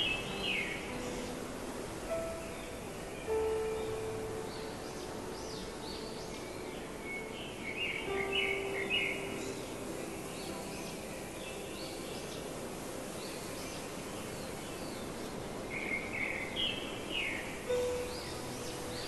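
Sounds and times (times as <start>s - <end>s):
steady background hiss: 0.0s - 19.0s
wild birds chirping: 0.0s - 19.0s.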